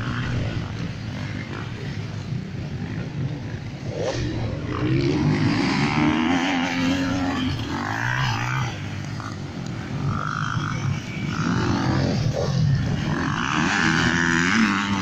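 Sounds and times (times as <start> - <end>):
motorcycle engines running: 0.0 - 15.0
motorcycle revving: 0.0 - 15.0.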